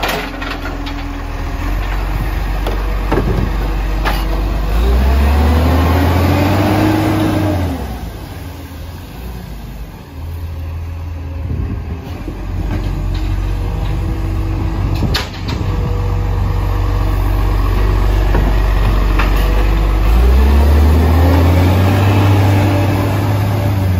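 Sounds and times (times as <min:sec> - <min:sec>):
diesel truck engine running: 0:00.0 - 0:23.9.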